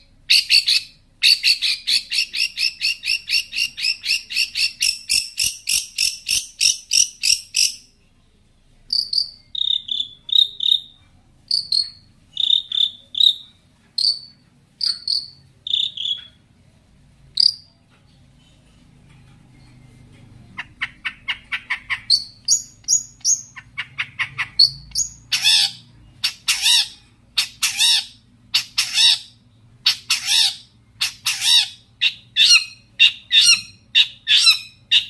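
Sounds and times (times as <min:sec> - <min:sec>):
bird chirping: 0:00.0 - 0:35.0.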